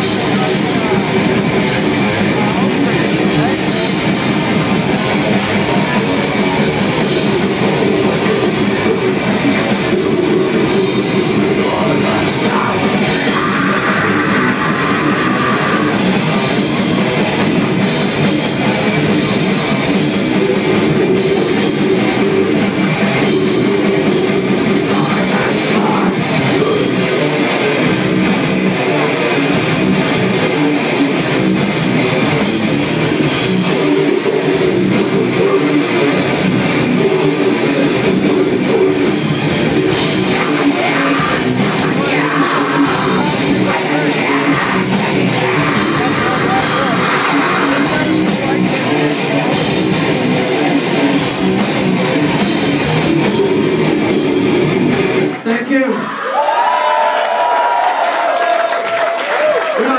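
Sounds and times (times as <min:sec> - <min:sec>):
death metal band playing live: 0:00.0 - 0:55.9.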